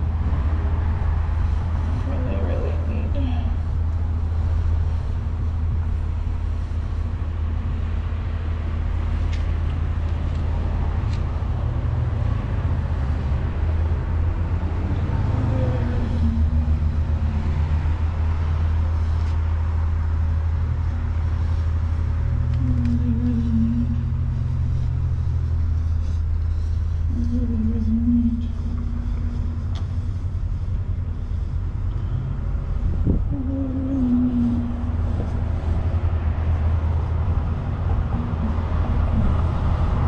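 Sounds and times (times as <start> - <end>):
low rumble and hum: 0.0 - 40.0.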